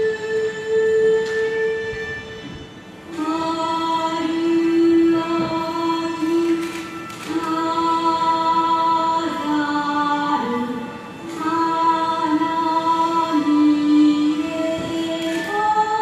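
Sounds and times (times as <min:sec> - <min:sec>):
slow ceremonial music: 0:00.0 - 0:16.0.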